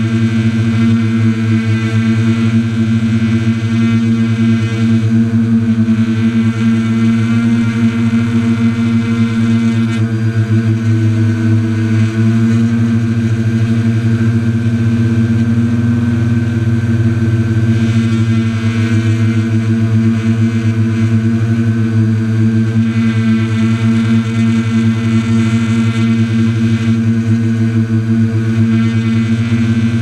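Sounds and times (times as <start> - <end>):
drone motors buzzing: 0.0 - 30.0.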